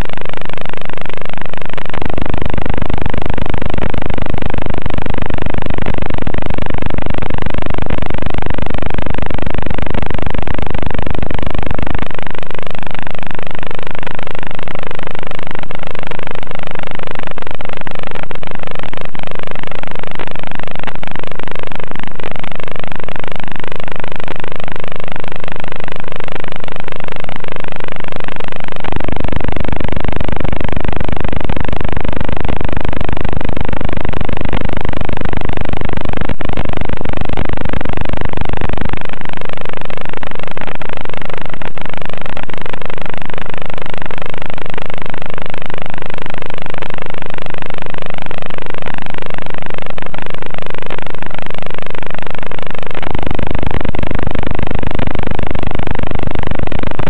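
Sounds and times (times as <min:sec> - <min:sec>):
distorted video feed buzz and hiss: 0:00.0 - 0:57.0
loud static noise: 0:00.0 - 0:57.0.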